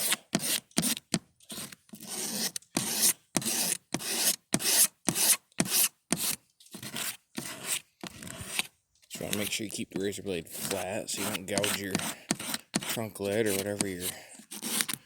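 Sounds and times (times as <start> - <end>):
razor blade scraping plastic: 0.0 - 15.0.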